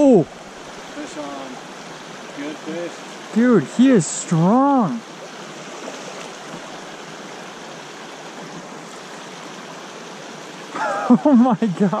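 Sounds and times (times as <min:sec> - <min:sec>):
creek water rushing over cobbles: 0:00.0 - 0:12.0.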